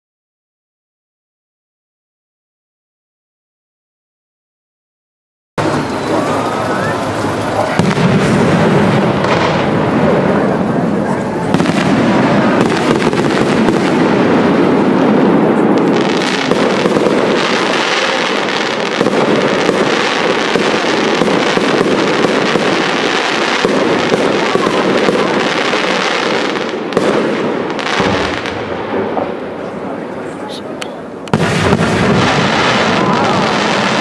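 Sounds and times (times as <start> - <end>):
fireworks bursting and crackling: 5.6 - 34.0.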